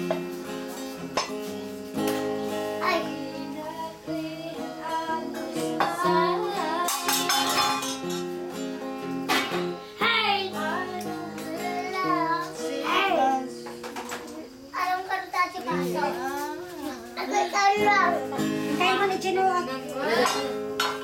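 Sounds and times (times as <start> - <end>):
acoustic guitar strumming chords: 0.0 - 21.0
young person singing: 2.4 - 8.8, 9.8 - 21.0.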